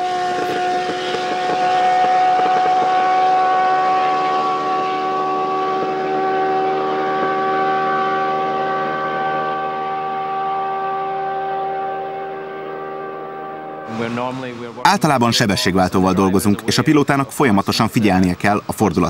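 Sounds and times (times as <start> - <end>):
racing car engine high note: 0.0 - 16.7.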